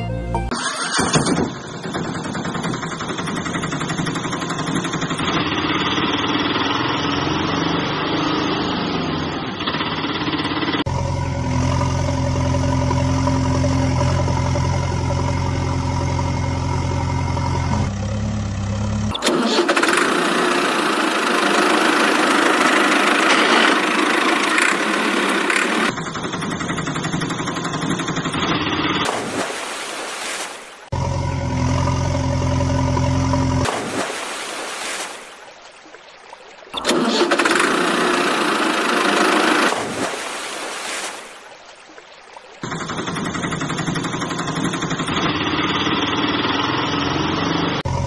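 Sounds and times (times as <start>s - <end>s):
engine running steadily: 1.8s - 29.6s, 30.9s - 34.0s, 36.8s - 40.3s, 42.6s - 48.0s.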